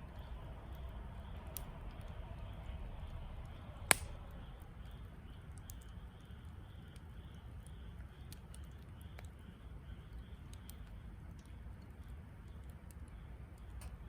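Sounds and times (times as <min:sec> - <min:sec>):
campfire rumbling: 0:00.0 - 0:14.0
fire crackling and popping: 0:00.1 - 0:14.0.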